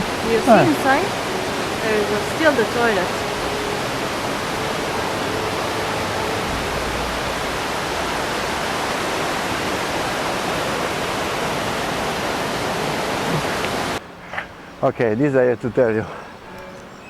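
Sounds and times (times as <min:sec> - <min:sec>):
rushing flowing water: 0:00.0 - 0:17.0.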